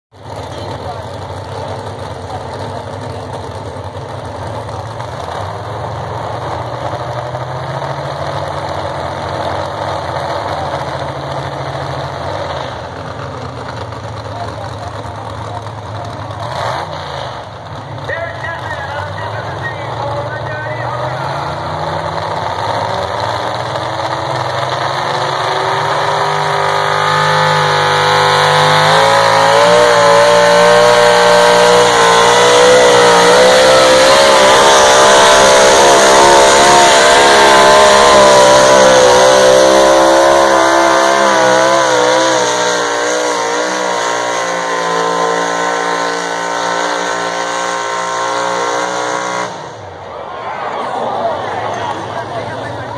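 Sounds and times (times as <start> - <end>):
truck engine at full throttle: 0.1 - 52.9.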